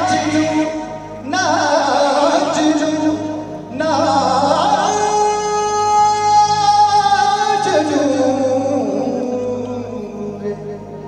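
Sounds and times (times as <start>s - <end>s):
backing music: 0.0s - 11.0s
person singing: 0.0s - 11.0s.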